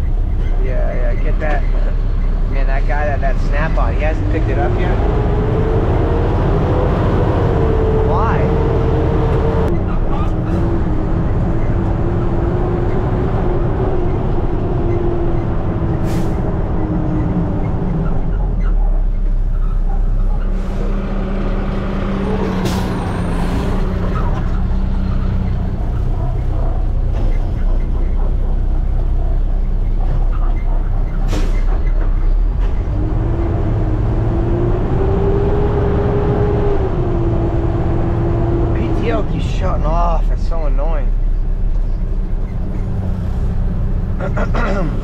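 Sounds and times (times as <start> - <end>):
garbage truck diesel engine: 0.0 - 45.0.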